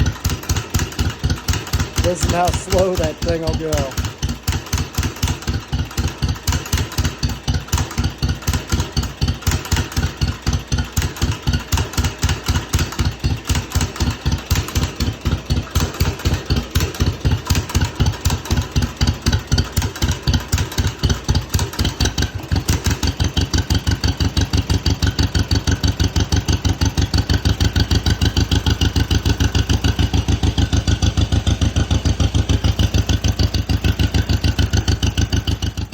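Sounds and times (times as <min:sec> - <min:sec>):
tractor engine idling with popping: 0:00.0 - 0:35.9.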